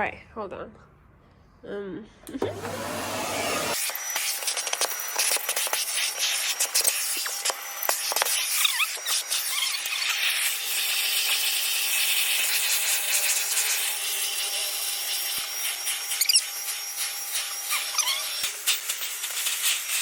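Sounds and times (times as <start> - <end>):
vacuum cleaner running: 2.3 - 20.0.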